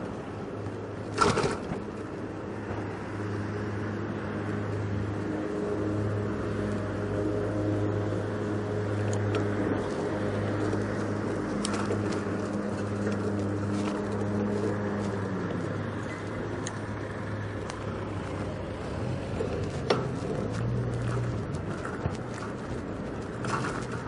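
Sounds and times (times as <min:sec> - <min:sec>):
vehicle engine hum: 0:00.0 - 0:24.0
wind and road noise: 0:00.0 - 0:24.0.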